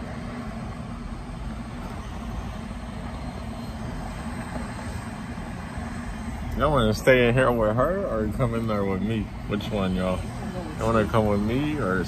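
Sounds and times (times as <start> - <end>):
car cabin rumble and hiss: 0.0 - 12.0.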